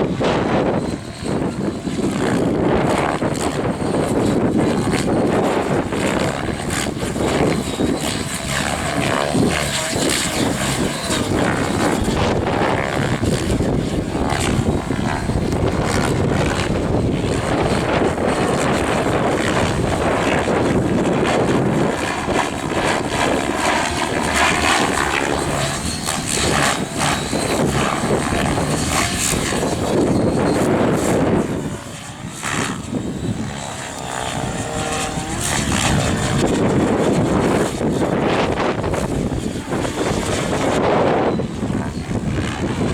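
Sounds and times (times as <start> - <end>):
helicopter rotor blades whooshing: 0.0 - 42.9.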